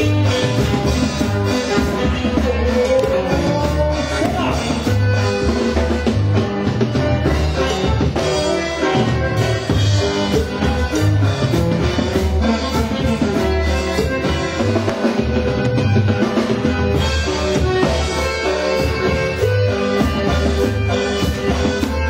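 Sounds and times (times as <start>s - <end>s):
band playing instrumental music: 0.0s - 22.0s
drum kit beat: 0.0s - 22.0s
pulsing bass line: 0.0s - 22.0s.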